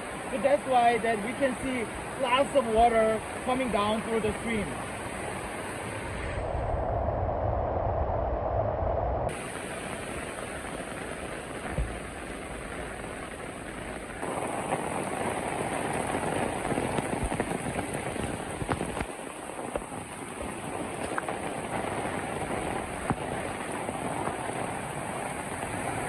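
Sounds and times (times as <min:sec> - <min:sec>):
heavy rain falling: 0:00.0 - 0:06.2, 0:09.3 - 0:26.0
stream rushing: 0:00.0 - 0:06.6, 0:09.3 - 0:26.0.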